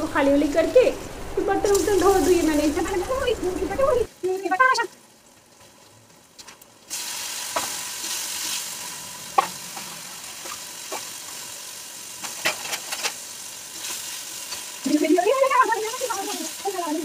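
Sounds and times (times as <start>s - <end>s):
onion and tomato sizzling: 0.0s - 17.0s.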